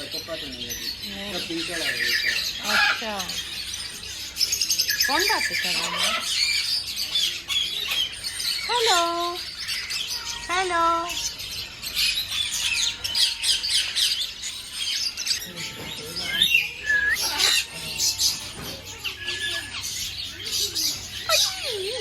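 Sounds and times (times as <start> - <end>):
many birds chirping: 0.0 - 22.0.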